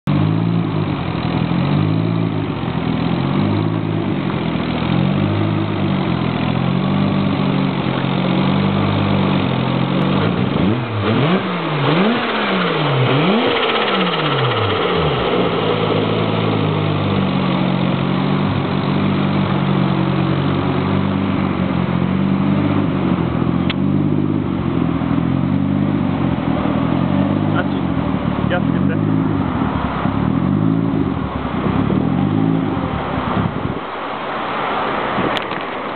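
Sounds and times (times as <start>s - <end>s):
rotary engine idling and revving: 0.0s - 35.9s.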